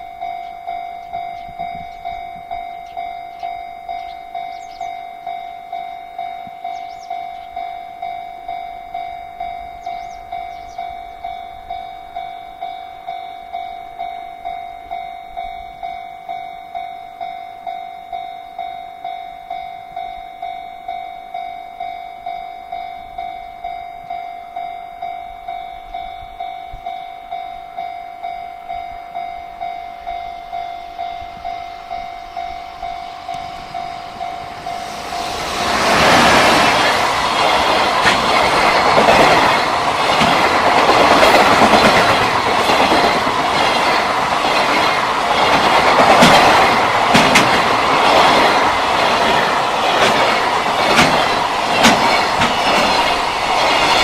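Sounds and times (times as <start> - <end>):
level crossing warning bell: 0.0 - 54.0.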